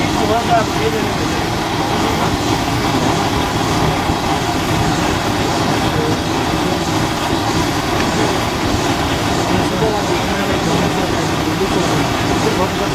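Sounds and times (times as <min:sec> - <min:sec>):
motorcycle engine rumble: 0:00.0 - 0:12.9.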